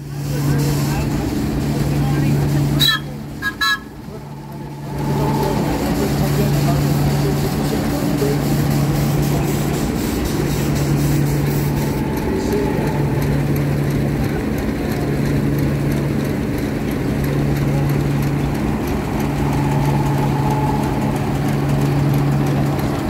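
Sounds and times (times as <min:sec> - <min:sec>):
steam engine mechanical hum: 0:00.0 - 0:23.0.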